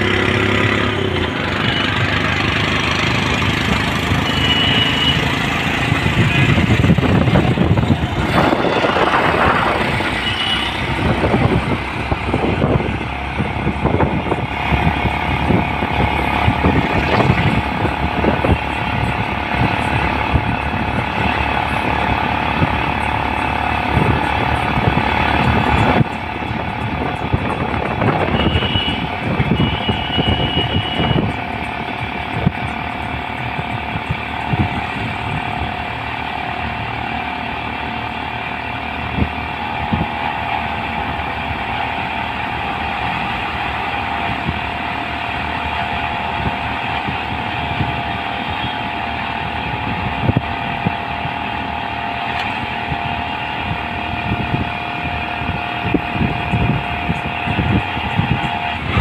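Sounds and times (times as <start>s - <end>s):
auto-rickshaw engine running: 0.0s - 59.0s
constant whine: 0.0s - 59.0s
road and wind noise: 0.0s - 59.0s.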